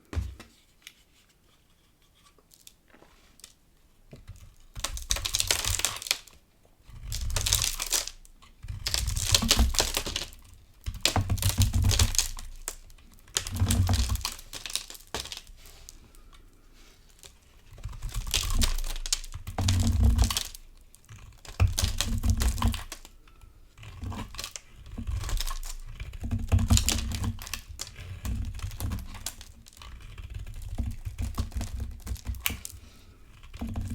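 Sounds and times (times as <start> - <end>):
bar soap crunching being carved: 3.4 - 33.9.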